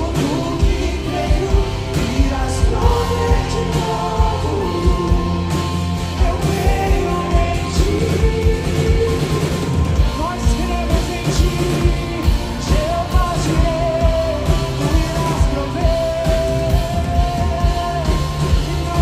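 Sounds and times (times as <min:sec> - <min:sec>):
backing singers: 0:00.0 - 0:19.0
bass guitar: 0:00.0 - 0:19.0
drums: 0:00.0 - 0:19.0
electric guitars: 0:00.0 - 0:19.0
man singing lead: 0:00.0 - 0:19.0.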